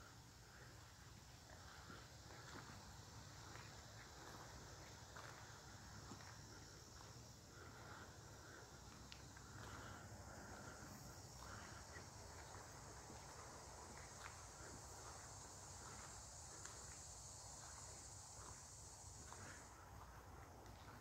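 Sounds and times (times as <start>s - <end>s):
faint insect chorus: 0.0s - 21.0s.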